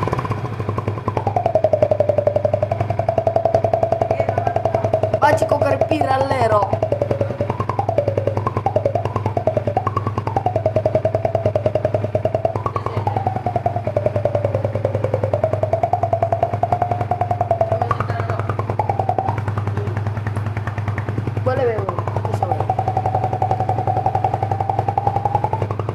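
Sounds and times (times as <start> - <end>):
motorcycle exhaust idling: 0.0 - 25.9
wavering gliding tone: 0.0 - 25.9.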